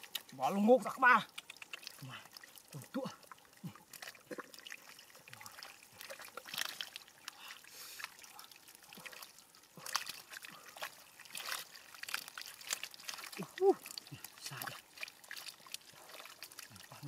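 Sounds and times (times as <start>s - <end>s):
mud squelching: 0.0s - 17.0s
muddy water sloshing: 0.0s - 17.0s.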